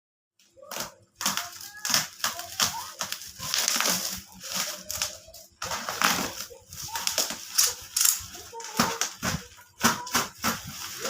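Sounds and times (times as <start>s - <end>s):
packaging crinkling and crunching: 0.6s - 11.0s.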